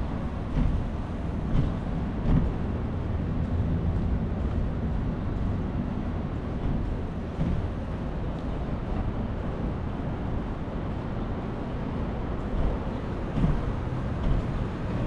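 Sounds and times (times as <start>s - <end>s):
low rumbling street noise: 0.0s - 15.0s.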